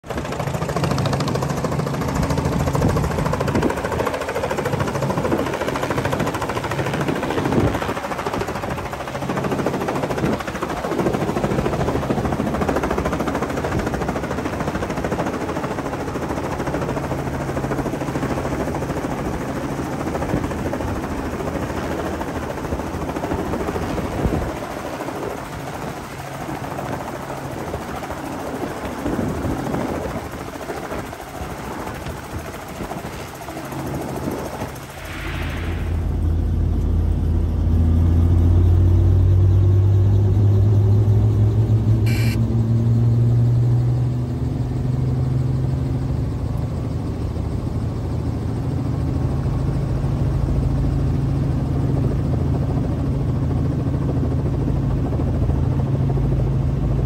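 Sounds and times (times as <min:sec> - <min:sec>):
helicopter rotor chopping: 0:00.0 - 0:57.0.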